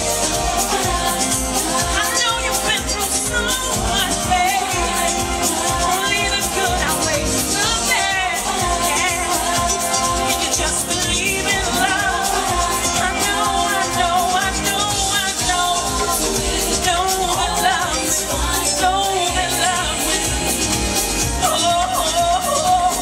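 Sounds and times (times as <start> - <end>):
house music with steady beat: 0.0 - 23.0
woman singing into microphone: 0.0 - 23.0.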